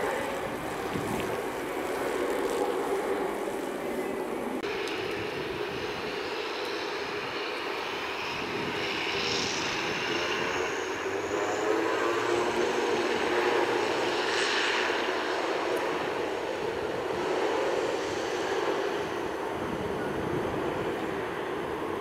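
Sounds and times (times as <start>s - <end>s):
airliner engines running: 0.0s - 22.0s.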